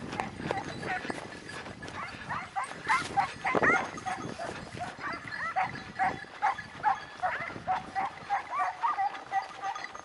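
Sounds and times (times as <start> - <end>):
hounds yelping and baying: 0.0 - 10.0.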